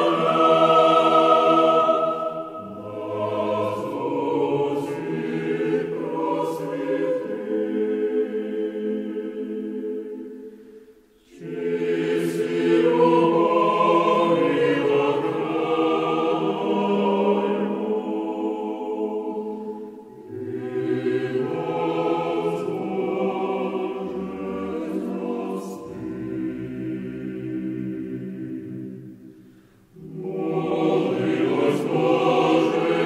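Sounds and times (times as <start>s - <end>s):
choir singing held chords: 0.0s - 33.0s.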